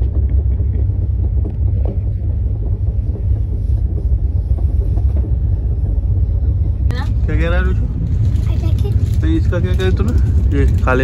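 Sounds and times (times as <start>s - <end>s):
train rumbling inside coach: 0.0s - 11.0s.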